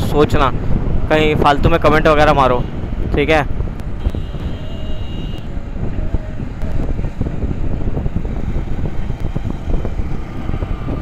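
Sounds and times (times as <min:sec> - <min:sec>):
low wind rumble: 0:00.0 - 0:11.0
road traffic noise: 0:00.0 - 0:11.0.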